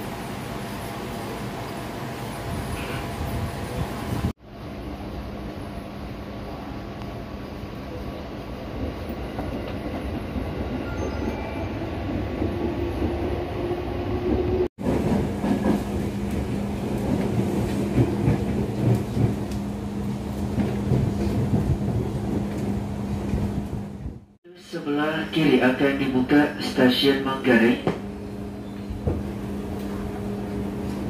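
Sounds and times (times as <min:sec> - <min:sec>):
train rumble and hum: 0:00.0 - 0:31.0.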